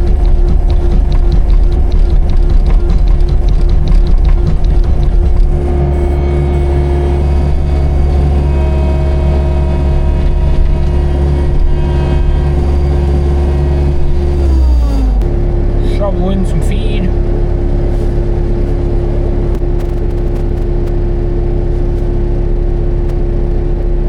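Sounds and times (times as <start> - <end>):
loader engine running: 0.0 - 24.0.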